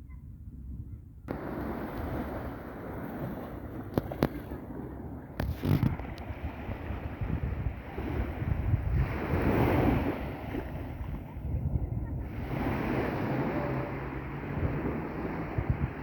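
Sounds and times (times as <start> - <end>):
wind rumbling on microphone: 0.0 - 16.0
sea waves breaking on shore: 1.3 - 16.0.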